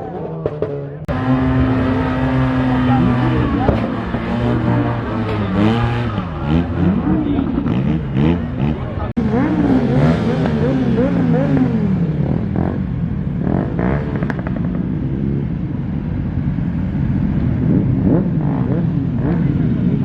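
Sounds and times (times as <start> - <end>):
car engine revving: 0.0 - 15.8, 16.5 - 20.0.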